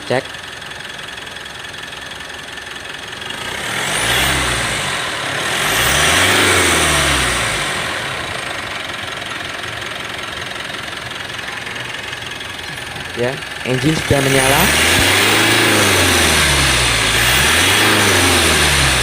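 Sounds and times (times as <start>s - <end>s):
diesel engine idling and revving: 0.0s - 19.0s.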